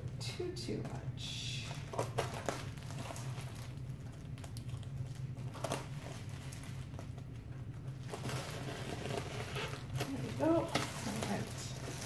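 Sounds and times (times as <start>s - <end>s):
steady low hum: 0.0s - 12.0s
plastic crinkling: 0.8s - 12.0s.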